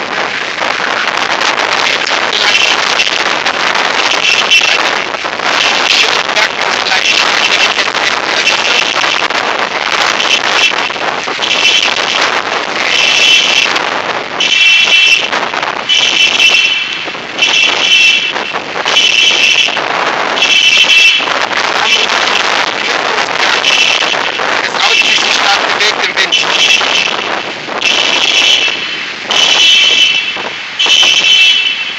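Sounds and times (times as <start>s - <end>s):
strong wind buffeting microphone: 0.0s - 31.9s
wind whistling: 0.0s - 31.9s.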